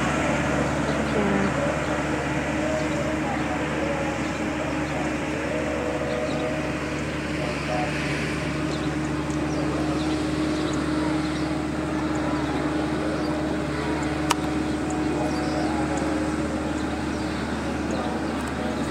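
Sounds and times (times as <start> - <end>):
low mechanical hum: 0.0 - 18.9.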